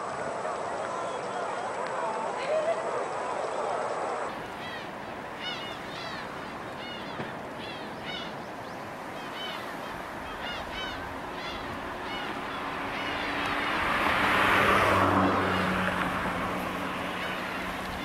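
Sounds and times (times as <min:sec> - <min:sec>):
rushing water surge: 0:00.0 - 0:18.0
birds calling: 0:00.9 - 0:18.0.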